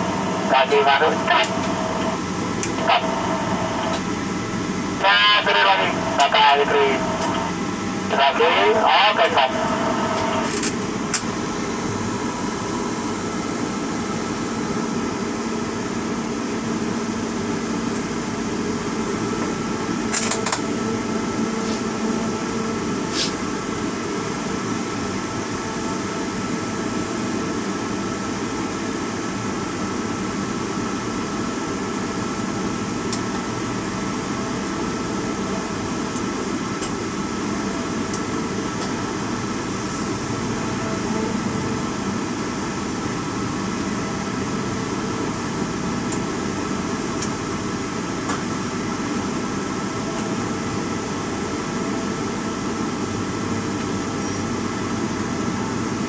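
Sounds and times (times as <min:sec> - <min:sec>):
mechanical hum with high whine: 0:00.0 - 0:56.0.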